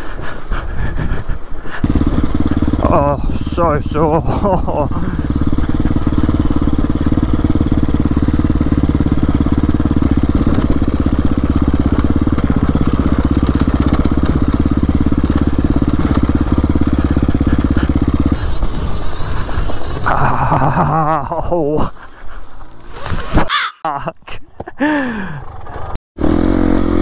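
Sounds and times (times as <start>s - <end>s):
dirt bike engine running: 1.8s - 23.4s, 24.8s - 27.0s.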